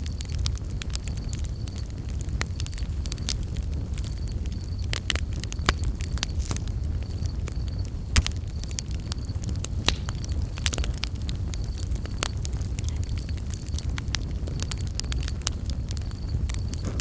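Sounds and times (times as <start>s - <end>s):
campfire crackling and popping: 0.0s - 17.0s
crickets chirping: 0.0s - 17.0s.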